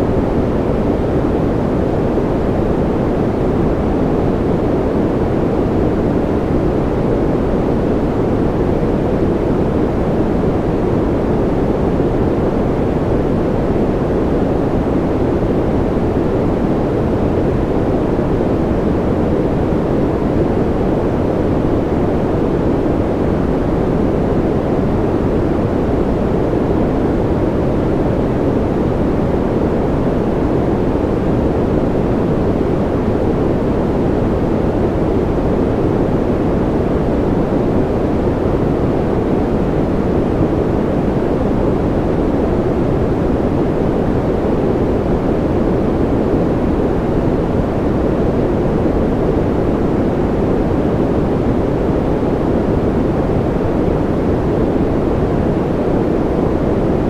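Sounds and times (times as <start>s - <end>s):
deep white noise rush: 0.0s - 57.0s.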